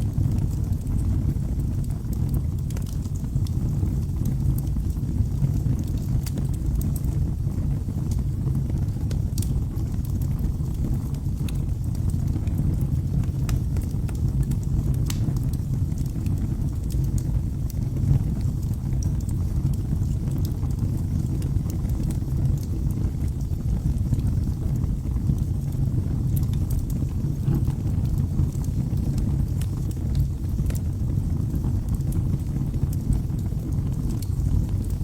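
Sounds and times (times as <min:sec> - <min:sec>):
fire crackles and pops: 0:00.0 - 0:35.0
low rumble of flames: 0:00.0 - 0:35.0.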